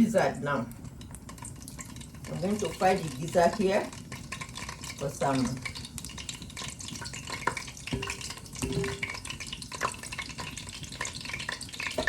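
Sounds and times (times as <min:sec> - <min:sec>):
frying oil sizzling and popping: 0:00.0 - 0:12.0.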